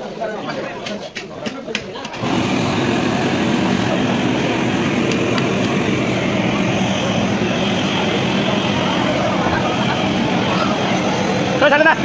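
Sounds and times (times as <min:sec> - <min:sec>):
engine running loudly: 0:02.2 - 0:12.0.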